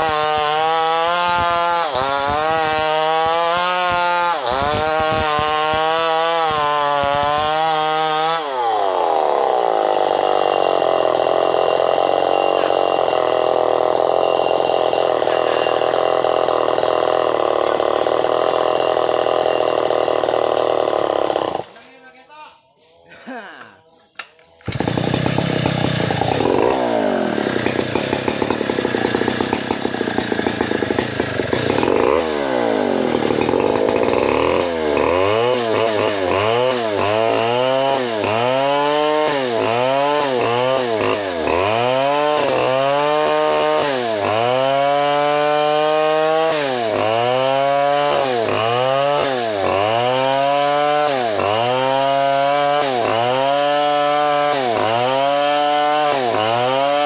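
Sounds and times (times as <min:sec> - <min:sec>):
chainsaw ripping a log: 0:00.0 - 0:21.9, 0:24.6 - 0:57.0.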